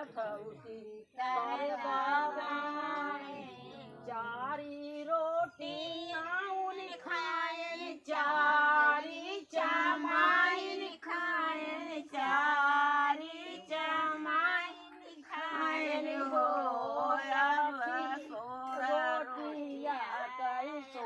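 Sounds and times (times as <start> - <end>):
women singing unaccompanied: 0.0 - 21.0.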